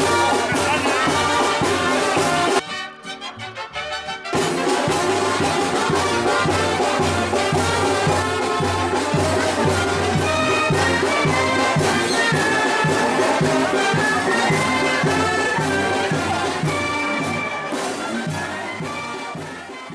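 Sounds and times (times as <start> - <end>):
brass music with steady beat: 0.0 - 19.9.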